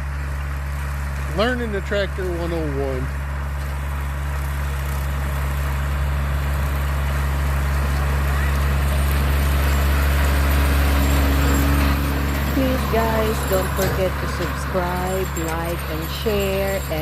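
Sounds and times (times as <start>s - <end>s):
tractor engine drone: 0.0s - 17.0s.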